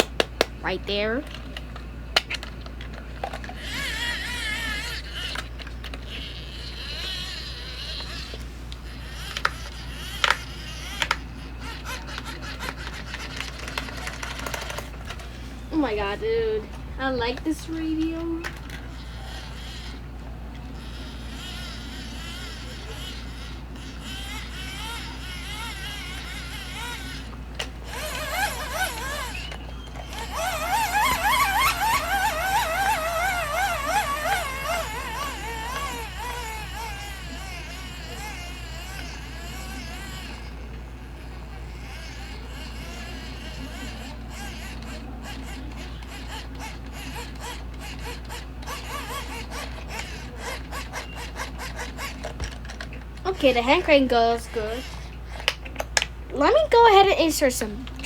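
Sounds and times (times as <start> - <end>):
hand-crank dynamo whirring: 0.0 - 58.0.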